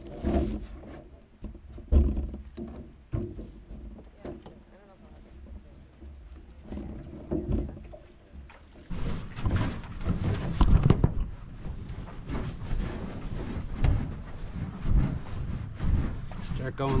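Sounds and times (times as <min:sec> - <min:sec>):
hollow knocks of aluminum canoe: 0:00.0 - 0:17.0
scraping and rustling: 0:00.0 - 0:17.0.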